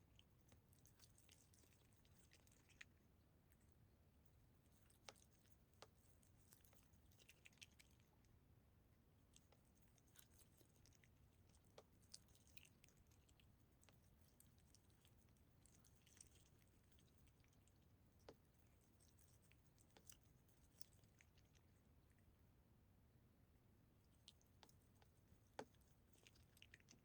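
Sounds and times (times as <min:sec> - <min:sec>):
cat chewing food: 0:00.0 - 0:22.6, 0:23.9 - 0:27.0
low steady hum: 0:00.0 - 0:27.0.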